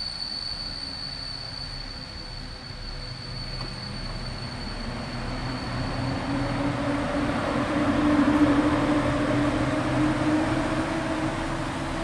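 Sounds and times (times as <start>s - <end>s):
electric locomotive passing: 0.0s - 12.0s.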